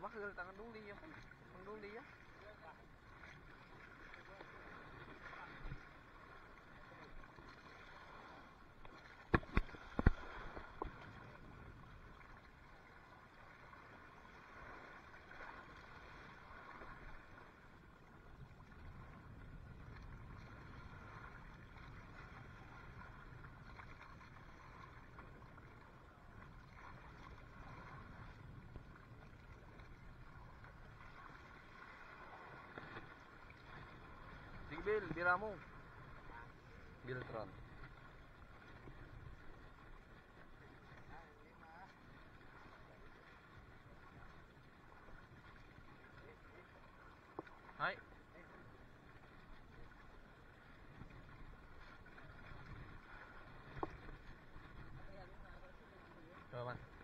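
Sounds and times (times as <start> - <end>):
sea water lapping: 0.0 - 57.0.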